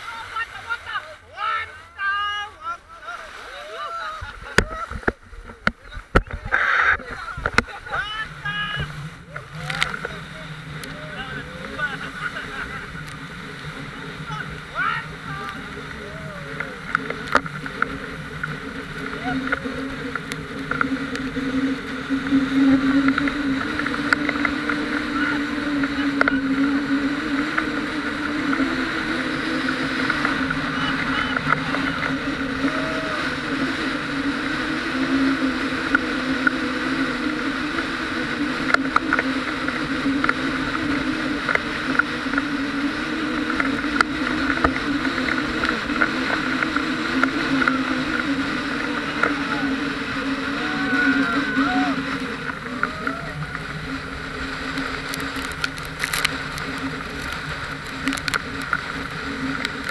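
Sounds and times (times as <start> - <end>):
motorboat engine droning: 0.0 - 59.9
water rushing and splashing: 0.0 - 59.9.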